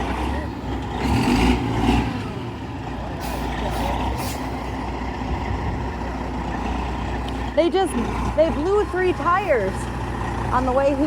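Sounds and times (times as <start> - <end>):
heavy truck engine running: 0.0 - 11.0.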